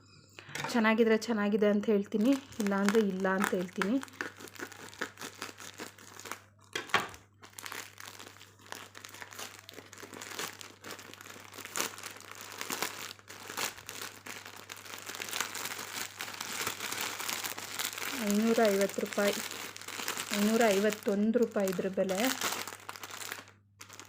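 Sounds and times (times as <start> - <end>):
parcel packaging crinkling: 2.0 - 24.0.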